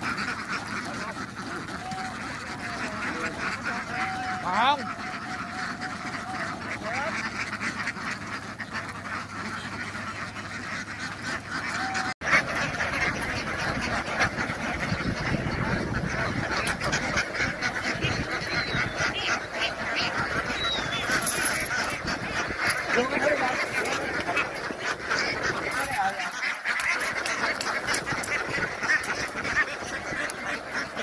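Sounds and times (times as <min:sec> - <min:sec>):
flock of ducks quacking: 0:00.0 - 0:31.0.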